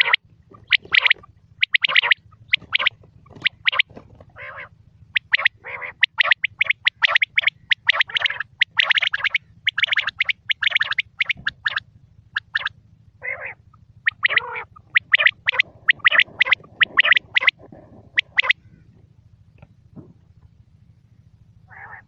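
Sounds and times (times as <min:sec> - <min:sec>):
quail calling sharp high notes: 0:00.0 - 0:18.9, 0:21.7 - 0:22.0
lower longer quail calls: 0:00.0 - 0:19.2, 0:21.6 - 0:22.0.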